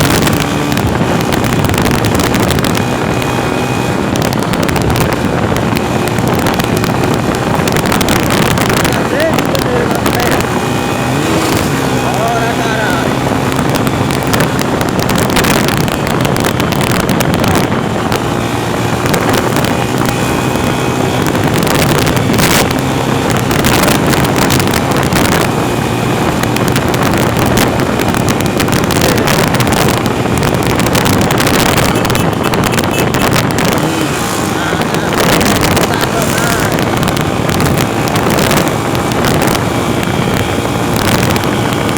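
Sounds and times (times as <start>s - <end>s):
vehicle engine running: 0.0s - 41.9s
wind buffeting microphone: 0.0s - 41.9s.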